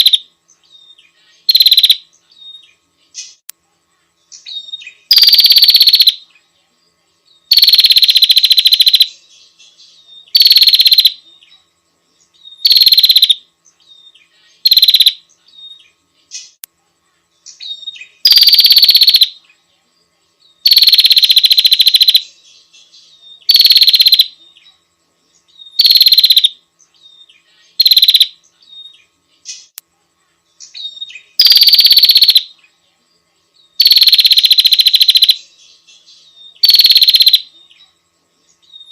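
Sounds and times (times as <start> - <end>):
bird harsh buzzing calls: 0.0 - 3.4, 4.2 - 6.3, 7.4 - 16.6, 17.4 - 19.6, 20.4 - 29.8, 30.5 - 32.8, 33.6 - 38.9.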